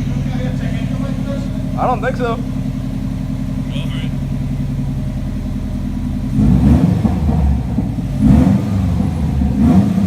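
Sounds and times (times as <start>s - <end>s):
car engine idling: 0.0s - 10.0s
engine revving blips: 1.4s - 10.0s.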